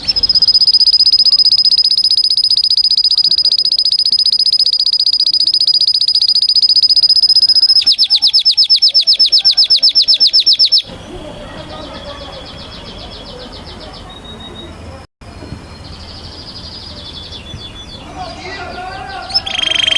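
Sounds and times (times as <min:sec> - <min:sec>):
canary singing trills: 0:00.0 - 0:19.9.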